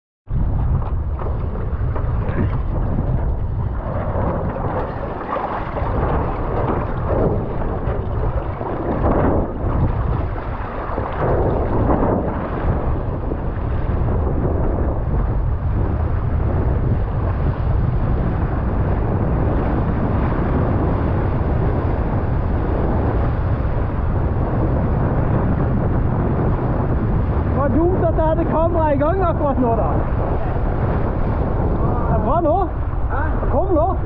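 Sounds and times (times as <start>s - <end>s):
water rushing and splashing: 0.3s - 34.0s
wind buffeting microphone: 0.3s - 34.0s.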